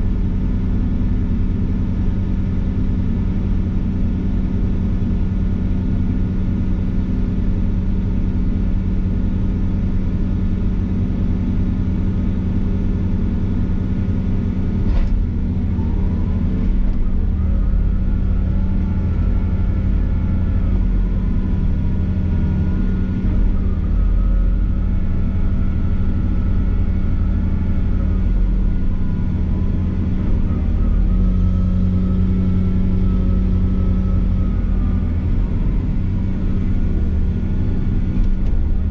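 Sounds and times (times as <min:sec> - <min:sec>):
diesel engine running: 0:00.0 - 0:38.9
wavering high whine: 0:05.2 - 0:38.9.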